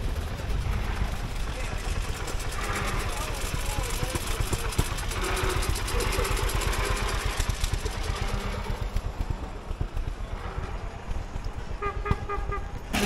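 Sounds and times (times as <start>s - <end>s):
old car engine chugging past: 0.0s - 13.0s.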